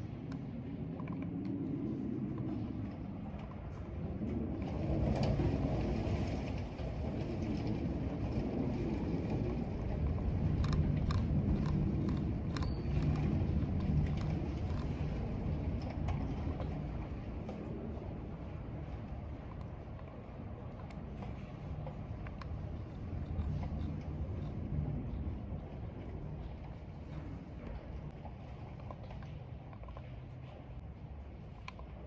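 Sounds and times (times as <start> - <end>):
storm wind gusting: 0.0 - 28.2.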